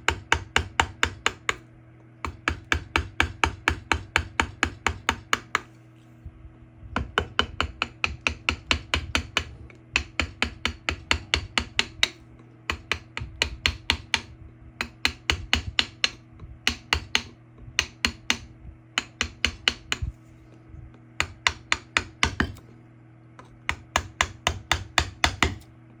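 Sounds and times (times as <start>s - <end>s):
mallet striking chisel into wood: 0.0s - 1.6s, 2.2s - 5.7s, 7.0s - 20.1s, 21.2s - 22.6s, 23.7s - 25.6s
steady low hum: 0.0s - 26.0s.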